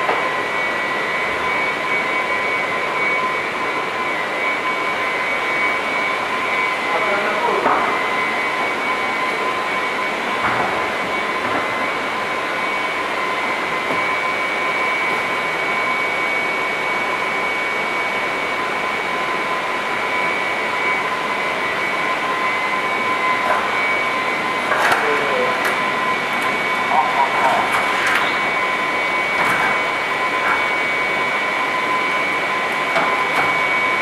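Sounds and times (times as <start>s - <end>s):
machine drone with high whine: 0.0s - 34.0s.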